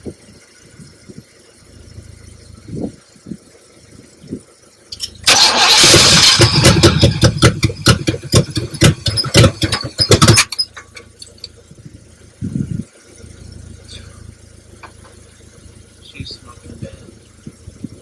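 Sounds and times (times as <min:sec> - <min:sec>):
car engine cranking and sputtering: 0:00.0 - 0:18.0.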